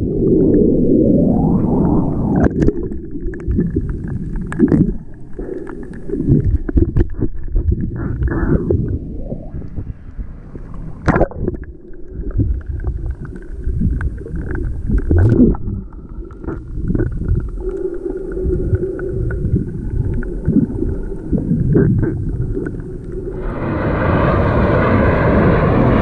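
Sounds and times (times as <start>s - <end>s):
water rushing: 0.0s - 8.0s, 10.3s - 26.0s
muffled underwater rumbling: 0.0s - 26.0s.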